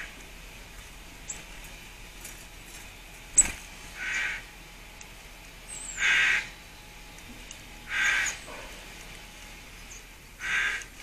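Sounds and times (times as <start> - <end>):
bird calling: 0.0 - 11.0.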